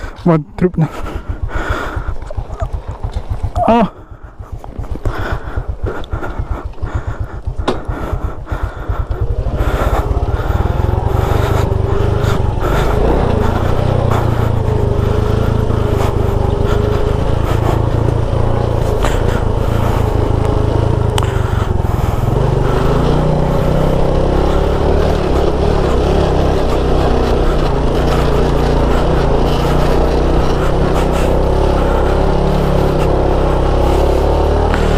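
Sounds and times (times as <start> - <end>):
motorcycle engine running: 0.0 - 34.9
deep rumble: 0.9 - 34.9.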